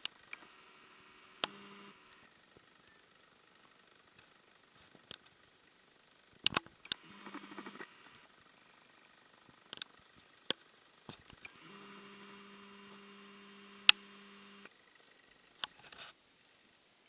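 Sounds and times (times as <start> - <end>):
steady hum: 0.0 - 15.6.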